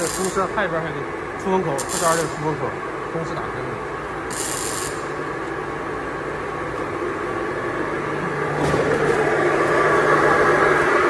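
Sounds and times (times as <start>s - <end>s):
exhaust fan: 0.0s - 11.0s
industrial mixer humming: 0.0s - 11.0s.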